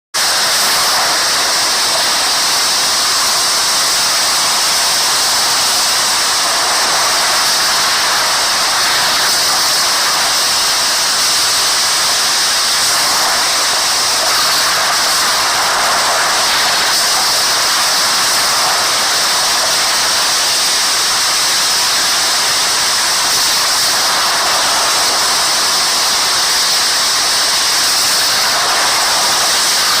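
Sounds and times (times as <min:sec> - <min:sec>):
heavy rain hissing: 0:00.2 - 0:30.0.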